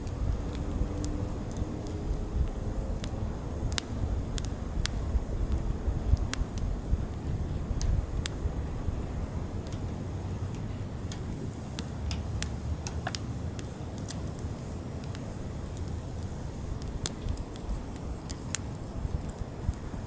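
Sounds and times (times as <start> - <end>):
firewood crackling and popping: 0.0 - 20.0
low steady fire rumble: 0.0 - 20.0.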